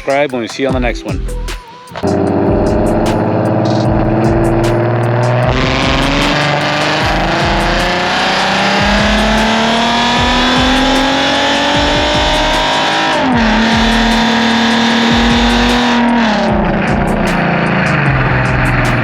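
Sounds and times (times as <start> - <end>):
music: 0.0 - 19.0
car engine revving: 2.1 - 19.0.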